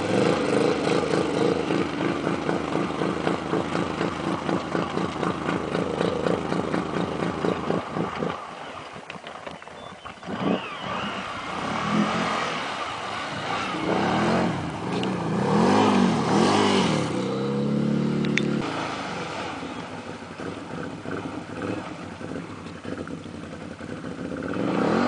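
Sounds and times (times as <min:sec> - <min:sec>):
quad engine revving: 0:00.0 - 0:08.4, 0:10.2 - 0:25.0.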